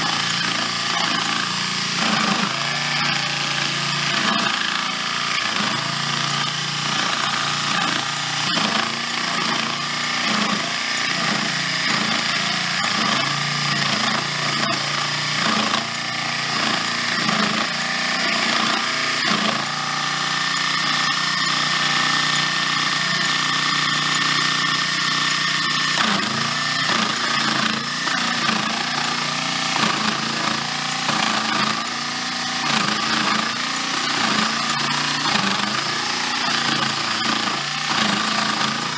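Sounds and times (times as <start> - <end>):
end mill cutting wood: 0.0 - 38.9
small electric motor whining: 0.0 - 38.9.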